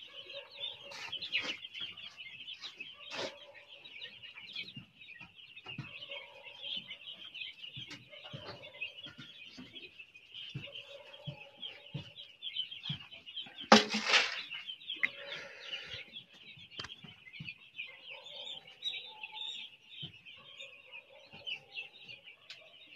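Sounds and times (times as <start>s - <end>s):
chicks peeping: 0.0s - 22.9s.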